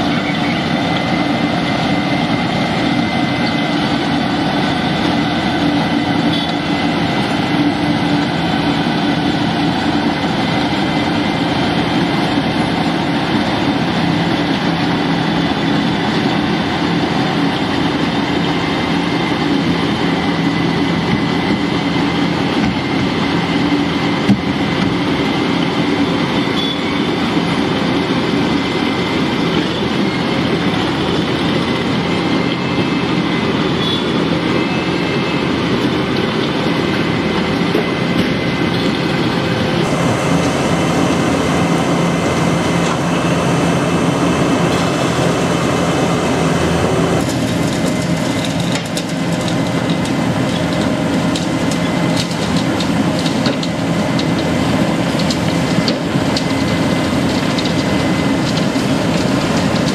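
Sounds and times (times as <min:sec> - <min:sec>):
milling machine grinding asphalt: 0:00.0 - 0:59.9.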